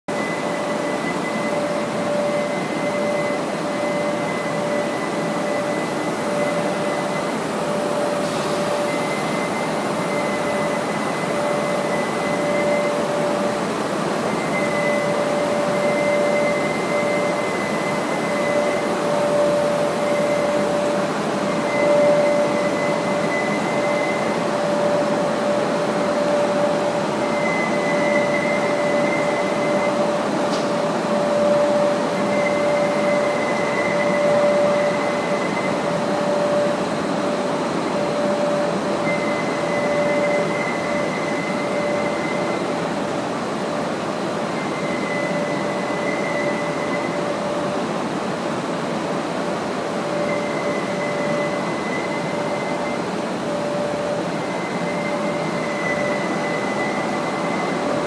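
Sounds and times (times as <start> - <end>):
higher machine whine: 0.1 - 58.0
mid-pitched machine whine: 0.1 - 58.0
printing machine humming: 0.1 - 58.0.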